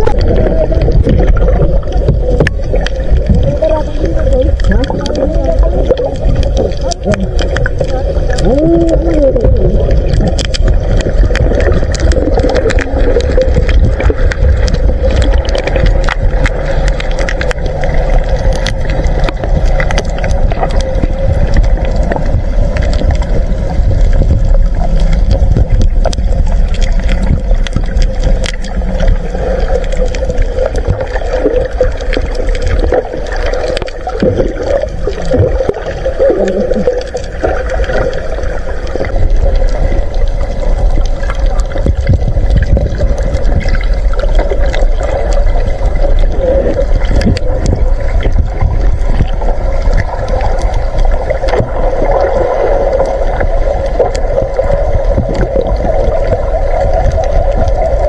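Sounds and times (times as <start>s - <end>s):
bubbles gurgling: 0.0s - 58.0s
underwater clicks and crackles: 0.0s - 58.0s
underwater low rumble: 0.0s - 58.0s.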